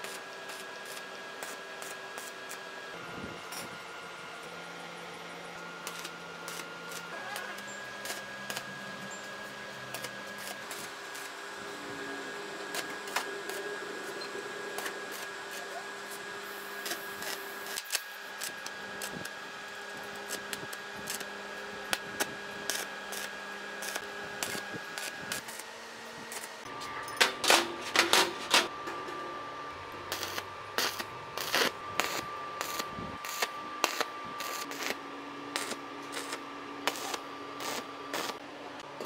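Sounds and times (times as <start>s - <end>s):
arc welder humming and whining: 0.0s - 39.0s.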